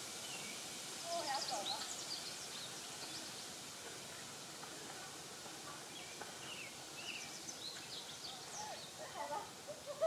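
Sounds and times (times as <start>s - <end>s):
songbirds chirping: 0.0s - 9.9s
soft steady hiss: 0.0s - 10.0s.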